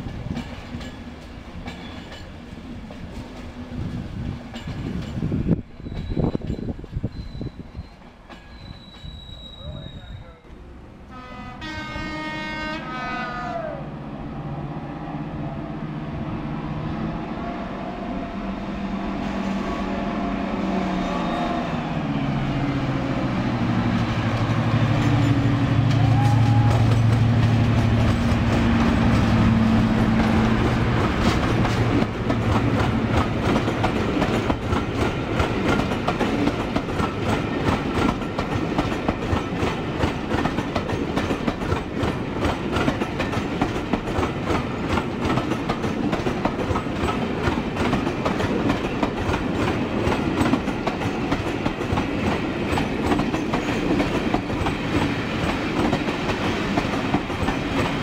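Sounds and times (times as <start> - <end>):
train coaches rumbling: 0.0 - 58.0.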